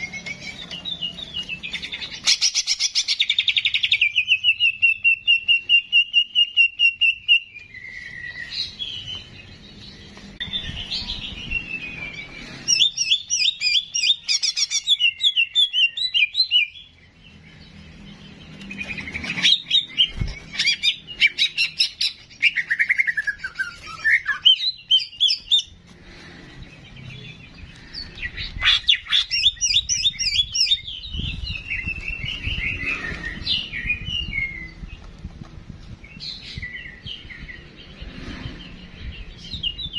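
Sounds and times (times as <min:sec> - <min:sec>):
songbird chirps trills and whistles: 0:00.0 - 0:39.9.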